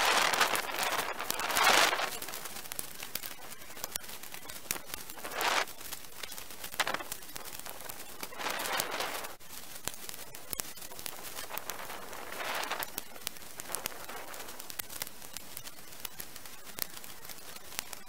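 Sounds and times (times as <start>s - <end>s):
branches rustling: 0.0s - 17.8s
dry branches crackling and snapping: 0.0s - 18.0s.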